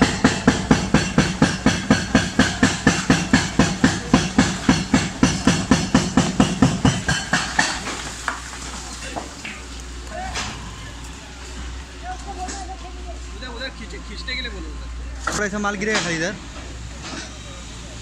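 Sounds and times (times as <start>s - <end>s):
hydraulic breaker pounding concrete: 0.0s - 13.2s, 15.2s - 18.0s
low engine rumble: 0.0s - 18.0s.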